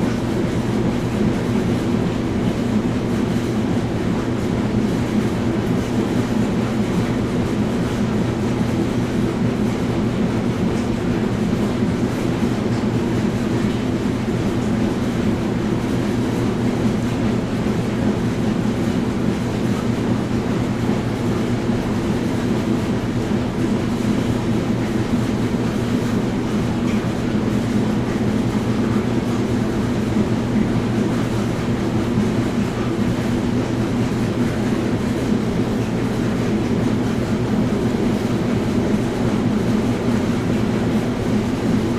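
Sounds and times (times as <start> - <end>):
washing machine running: 0.0 - 41.9.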